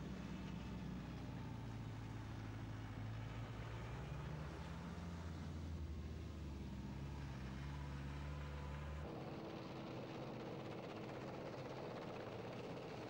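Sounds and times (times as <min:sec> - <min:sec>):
military vehicles driving past: 0:00.0 - 0:13.0.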